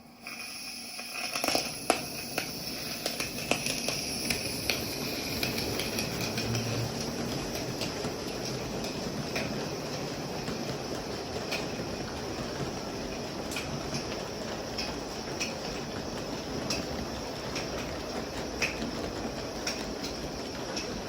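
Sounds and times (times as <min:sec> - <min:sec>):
model steam locomotive running: 0:00.0 - 0:21.0.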